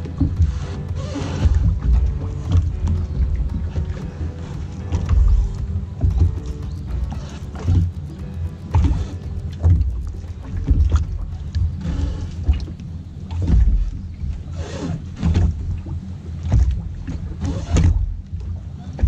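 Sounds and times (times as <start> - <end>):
low rumble: 0.0 - 18.7
waves slapping against boat hull: 0.0 - 19.0.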